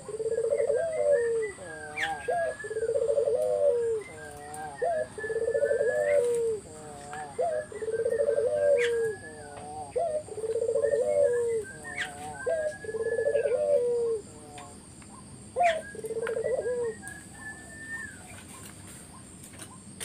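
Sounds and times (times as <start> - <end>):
birds whistling: 0.0 - 14.2, 15.1 - 19.9
high insect-like tone: 0.0 - 17.3
dove cooing: 0.0 - 20.0.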